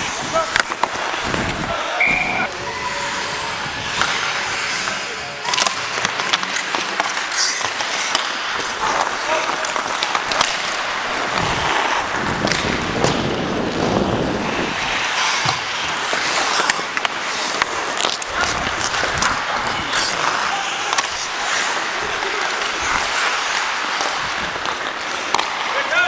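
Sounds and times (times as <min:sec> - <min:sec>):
skate blades scraping ice: 0:00.0 - 0:26.0
sticks and puck clicking: 0:00.1 - 0:02.1, 0:03.9 - 0:13.9, 0:15.0 - 0:25.9.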